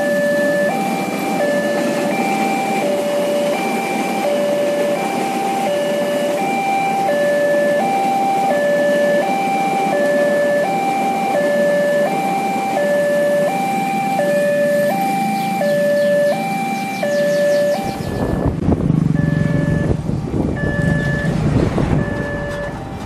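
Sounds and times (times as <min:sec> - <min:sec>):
level crossing two-note alarm: 0:00.0 - 0:20.0, 0:20.6 - 0:21.4, 0:22.0 - 0:22.8
passing train rumble: 0:00.0 - 0:23.0
waiting traffic: 0:00.0 - 0:23.0.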